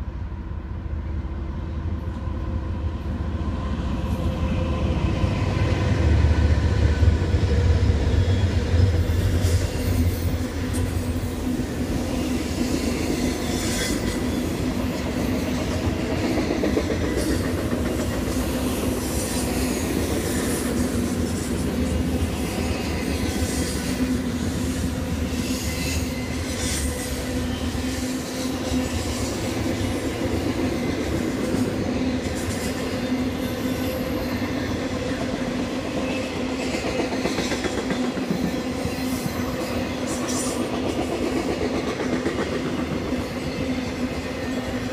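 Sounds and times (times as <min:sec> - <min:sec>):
diesel locomotives rumbling: 0:00.0 - 0:44.9
train wheels rolling on rail: 0:00.0 - 0:44.9.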